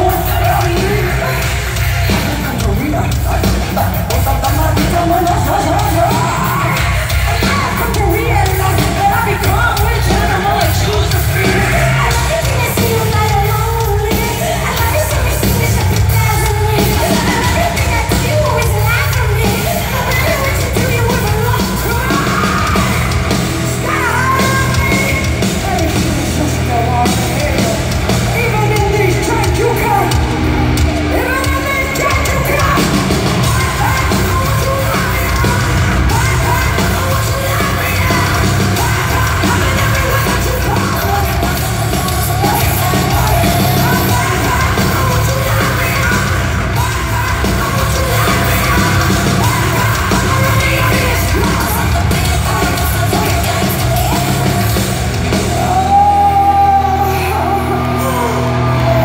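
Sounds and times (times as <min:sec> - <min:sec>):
heavy metal band playing live: 0:00.0 - 0:59.0
woman singing and yelling: 0:00.0 - 0:59.0.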